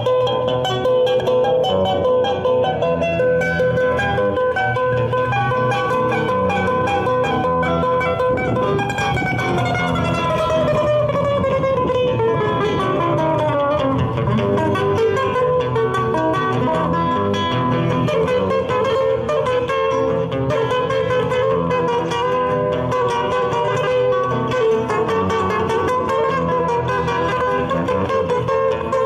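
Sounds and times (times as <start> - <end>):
acoustic guitars playing: 0.0 - 29.0.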